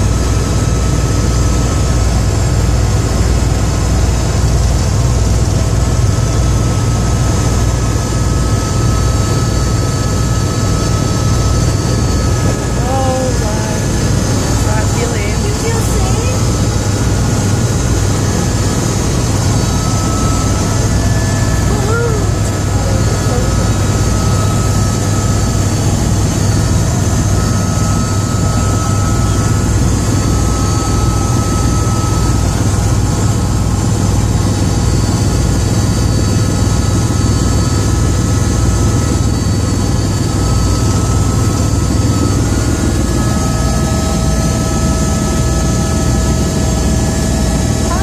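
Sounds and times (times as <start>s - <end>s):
helicopter rotor and engine drone: 0.0s - 48.0s.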